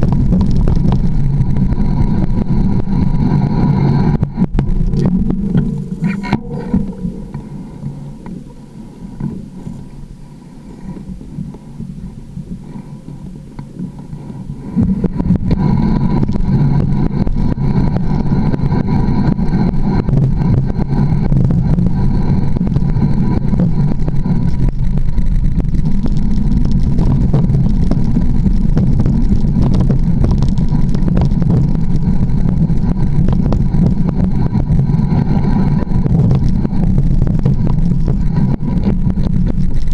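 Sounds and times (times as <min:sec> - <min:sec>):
bike rattling and clattering: 0:00.0 - 0:39.9
mountain bike rolling over trail: 0:00.0 - 0:39.9.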